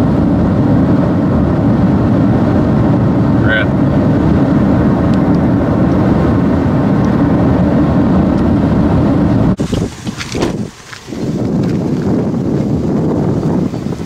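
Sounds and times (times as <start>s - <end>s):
uneven rushing noise: 0.0s - 14.0s
vehicle road and engine rumble: 0.0s - 14.0s.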